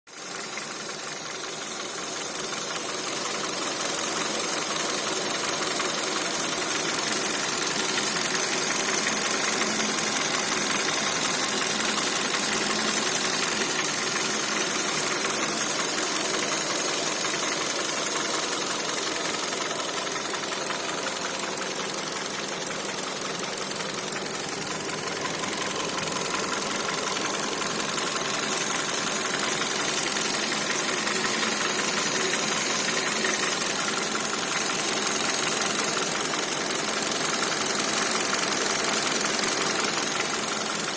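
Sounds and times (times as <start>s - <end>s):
car engine running: 0.1s - 40.9s
fast engine knocking: 0.1s - 40.9s.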